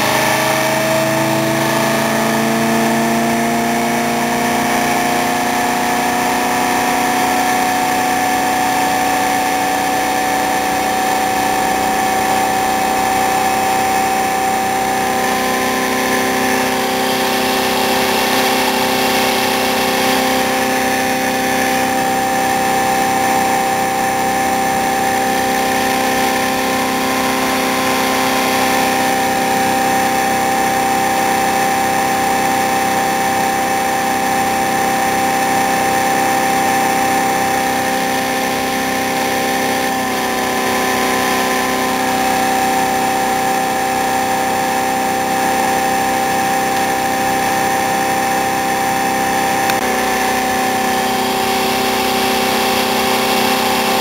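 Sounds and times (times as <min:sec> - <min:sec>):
electric motor humming: 0:00.0 - 0:54.0.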